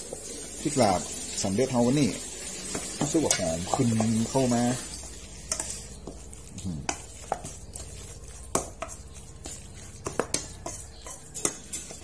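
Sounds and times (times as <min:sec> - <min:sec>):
spoon stirring wet meat: 0:00.0 - 0:12.0.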